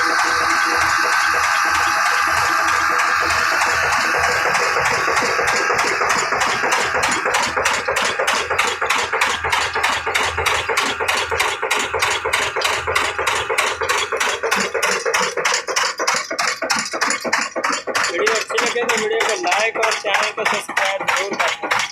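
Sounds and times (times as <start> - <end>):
diesel engine knocking steadily: 0.0 - 21.9.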